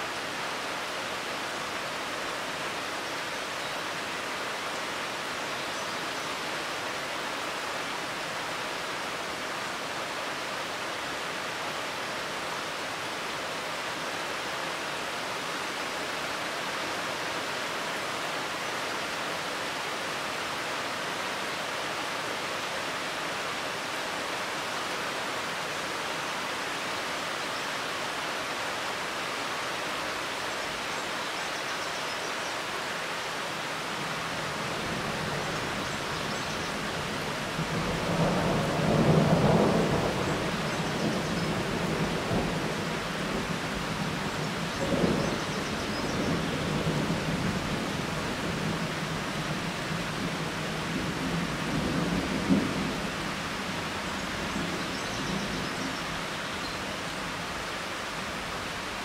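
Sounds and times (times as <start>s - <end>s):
rain on foliage: 0.0s - 59.0s.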